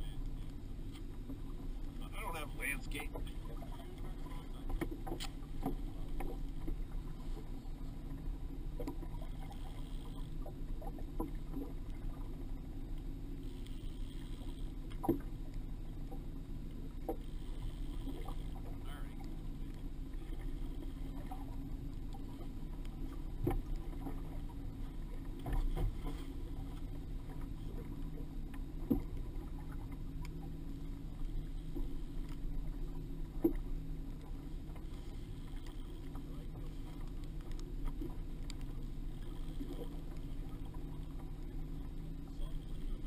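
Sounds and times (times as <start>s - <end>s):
outboard motor running: 0.0s - 43.0s.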